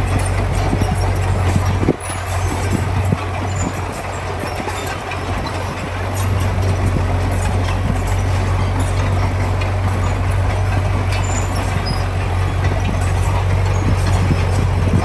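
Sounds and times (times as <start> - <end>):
diesel machinery engine drone: 0.0 - 15.0.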